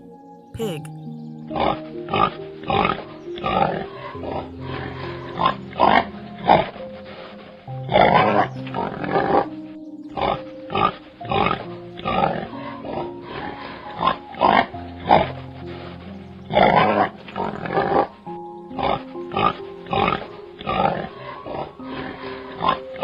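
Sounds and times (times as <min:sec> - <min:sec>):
background music: 0:00.0 - 0:23.0
pig grunting: 0:01.6 - 0:09.5, 0:10.2 - 0:23.0.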